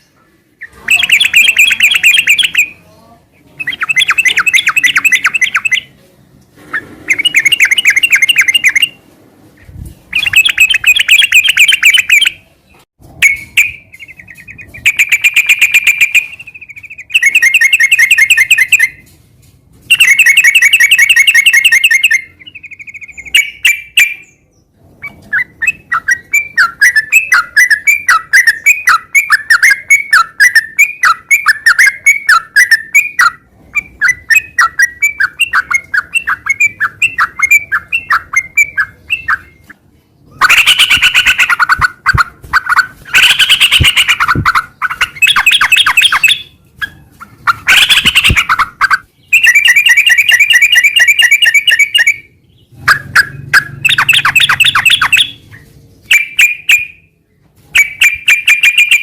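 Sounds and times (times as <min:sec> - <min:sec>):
bulbul singing: 0:00.0 - 0:06.0, 0:07.0 - 0:09.0, 0:09.6 - 0:12.5, 0:13.2 - 0:19.1, 0:19.9 - 0:57.2, 0:57.8 - 0:59.0.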